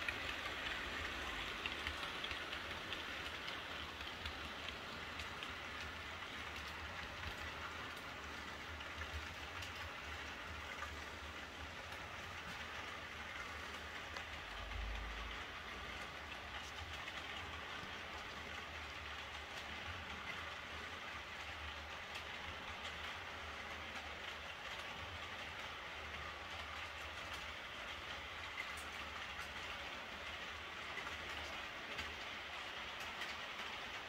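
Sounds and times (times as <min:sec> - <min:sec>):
model train whirring on track: 0:00.0 - 0:34.0.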